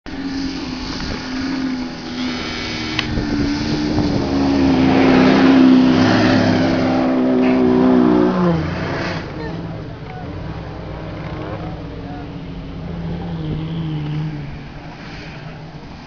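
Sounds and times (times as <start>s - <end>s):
engine revving hard: 1.0s - 15.6s.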